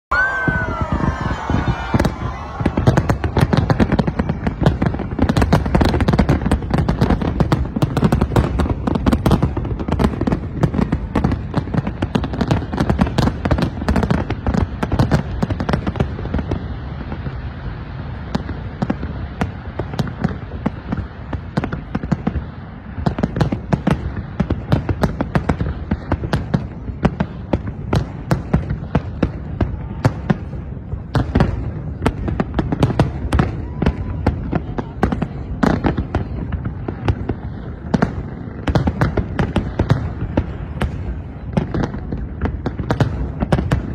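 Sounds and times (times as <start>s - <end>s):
firecrackers cracking and banging: 0.1s - 17.4s, 18.1s - 43.9s.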